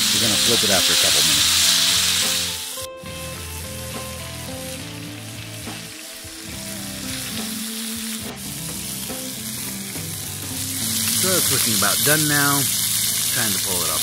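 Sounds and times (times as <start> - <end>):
meat sizzling in a skillet: 0.0 - 14.0
soft background music: 0.0 - 14.0.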